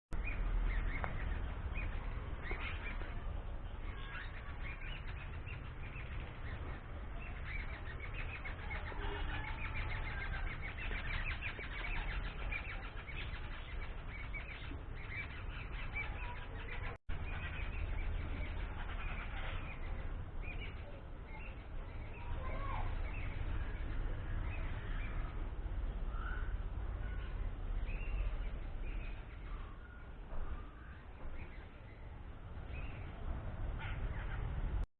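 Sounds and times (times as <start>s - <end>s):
small birds chirping: 0.1s - 34.9s
steady low rumble: 0.1s - 34.9s.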